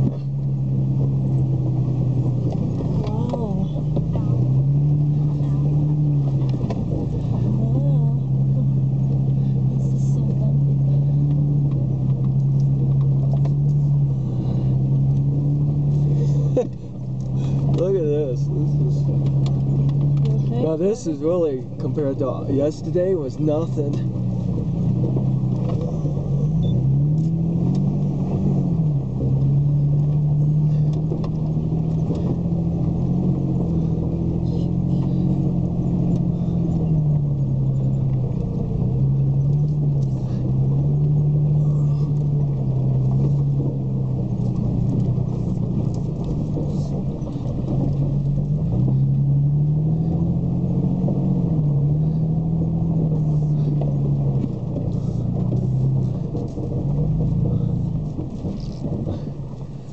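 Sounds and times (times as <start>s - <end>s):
engine pulling low hum: 0.0s - 59.9s
light rattles and clicks: 0.0s - 59.9s.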